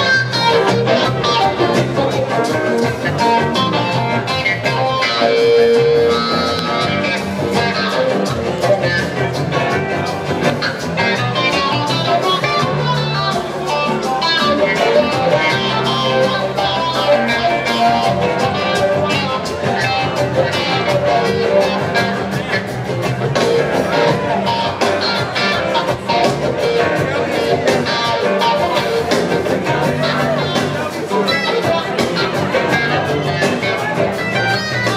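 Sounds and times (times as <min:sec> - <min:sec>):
bass guitar: 0:00.0 - 0:34.9
clavinet solo: 0:00.0 - 0:34.9
electric guitar: 0:00.0 - 0:34.9.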